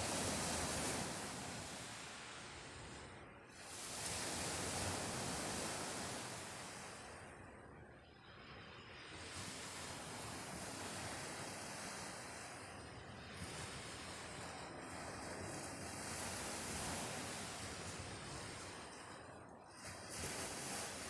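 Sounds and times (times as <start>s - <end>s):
waves on pebble shore: 0.0s - 7.3s, 9.2s - 21.0s.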